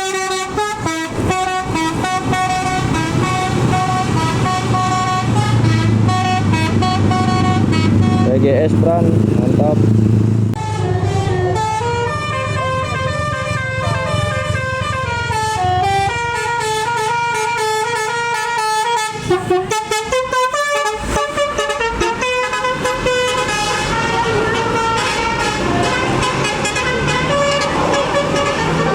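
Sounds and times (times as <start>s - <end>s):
bus horn playing a tune: 0.0s - 8.6s, 10.6s - 28.9s
bus engine rumble: 0.0s - 28.9s.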